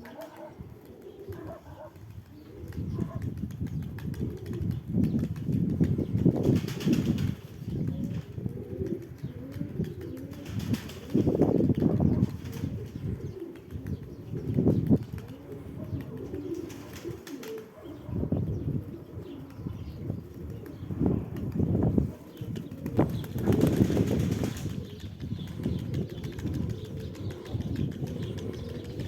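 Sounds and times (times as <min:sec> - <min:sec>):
wings flapping: 0:00.0 - 0:17.8, 0:21.3 - 0:29.0
pigeons cooing: 0:00.0 - 0:29.0.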